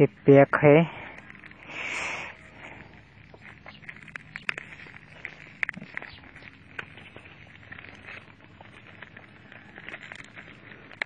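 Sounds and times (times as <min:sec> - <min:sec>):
bubble wrap crinkling and crackling: 0:01.1 - 0:11.0.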